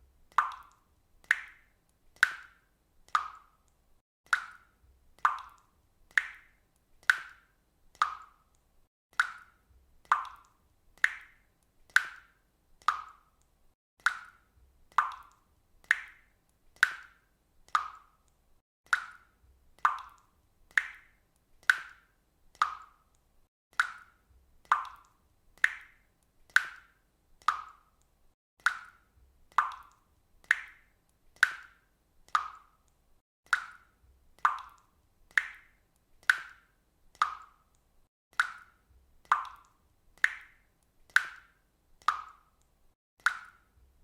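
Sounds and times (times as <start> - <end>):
water dripping: 0.1 - 44.0.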